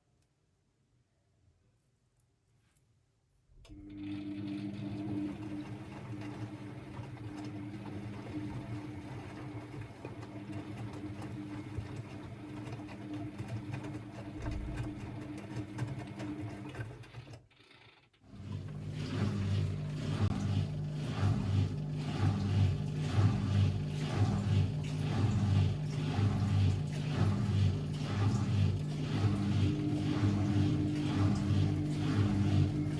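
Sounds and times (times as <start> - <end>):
washing machine motor hum: 3.6 - 32.9.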